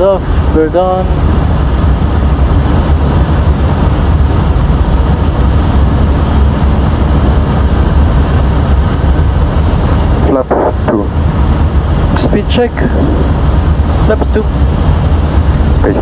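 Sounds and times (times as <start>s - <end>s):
airplane cockpit airflow and engines: 0.0s - 16.0s.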